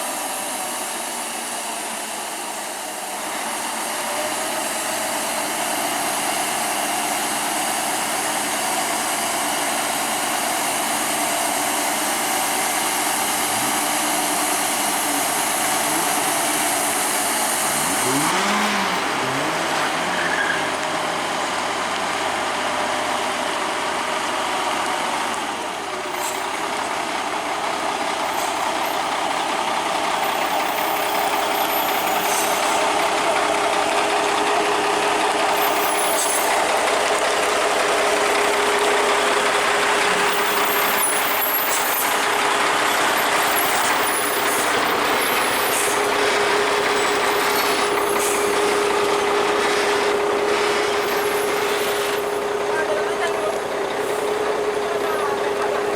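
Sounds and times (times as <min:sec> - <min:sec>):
heavy truck engines: 0:00.0 - 0:55.9.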